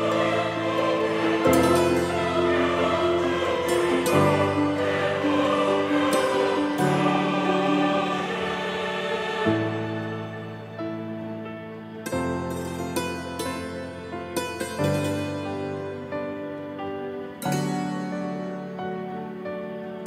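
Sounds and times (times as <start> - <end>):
slow music of held chords: 0.0 - 20.0.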